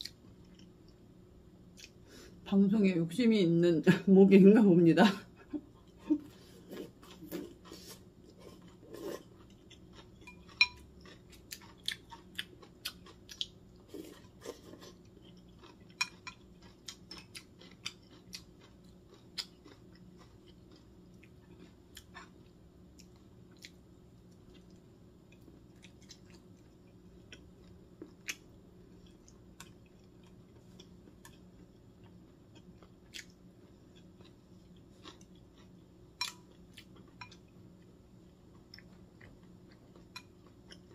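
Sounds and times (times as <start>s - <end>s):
person chewing food: 0.0s - 1.0s, 1.7s - 2.1s, 5.4s - 40.9s
faint steady hum: 0.0s - 40.9s.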